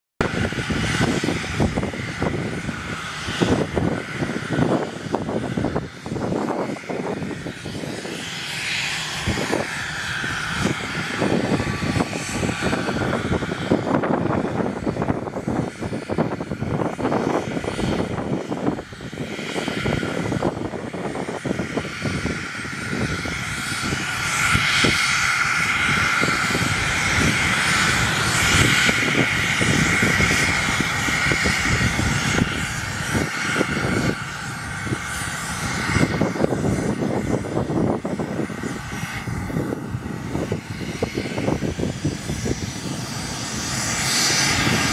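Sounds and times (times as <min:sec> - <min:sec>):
jet engines whining: 0:00.2 - 0:44.9
low rushing rumble: 0:00.2 - 0:44.9.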